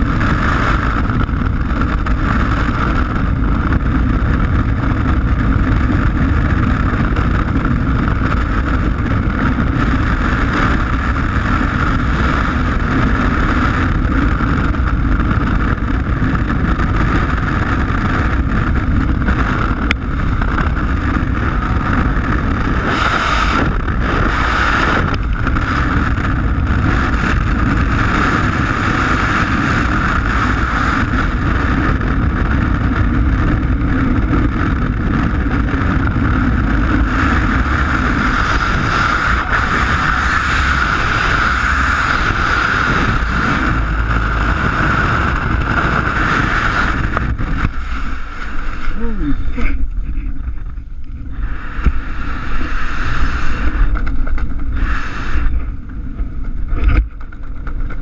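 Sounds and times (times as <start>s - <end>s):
freefall wind rushing: 0.0s - 58.0s.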